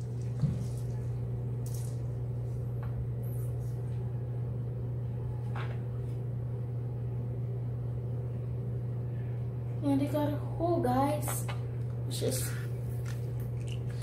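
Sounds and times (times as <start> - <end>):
low appliance hum: 0.0 - 14.0.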